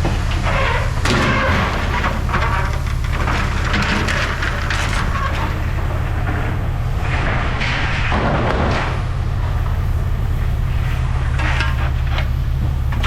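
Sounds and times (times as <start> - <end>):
machinery droning: 0.0 - 13.0
noisy clatter: 0.0 - 13.0.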